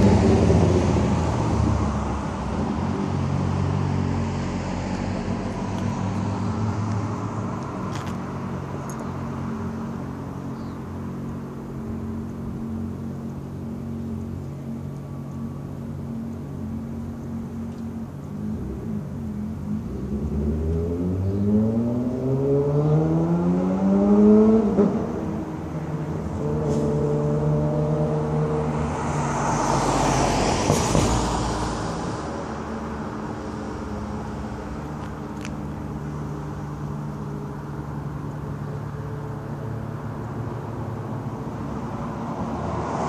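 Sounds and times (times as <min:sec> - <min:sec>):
vehicle passing rush: 0:00.0 - 0:43.0.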